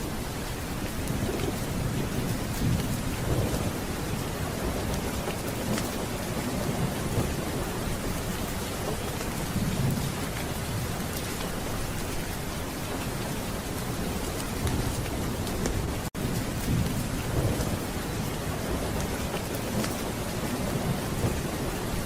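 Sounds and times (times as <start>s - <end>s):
low rolling thunder: 0.0s - 22.0s
steady rain: 0.0s - 22.0s.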